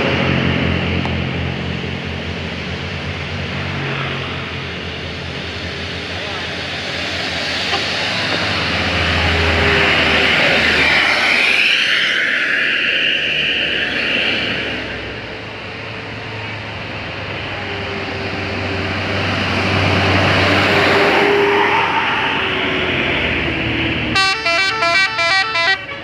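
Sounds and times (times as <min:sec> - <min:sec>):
buses passing on a climb: 0:00.0 - 0:26.0.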